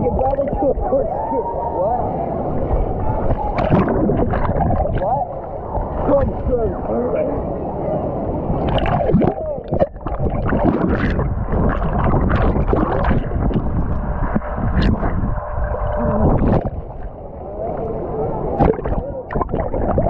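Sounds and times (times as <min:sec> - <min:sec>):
crackles and bubbling: 0:00.0 - 0:01.1, 0:02.2 - 0:06.8, 0:07.8 - 0:20.0
muffled water sloshing: 0:00.0 - 0:20.0.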